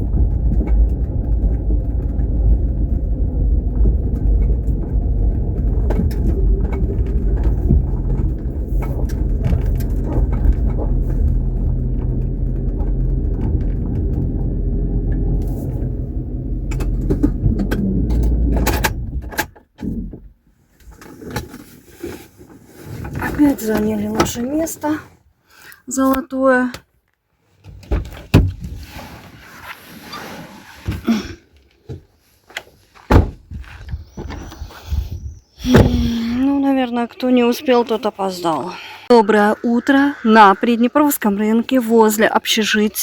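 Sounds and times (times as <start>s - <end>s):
vehicle engine and road rumble: 0.0s - 26.8s, 27.4s - 43.0s.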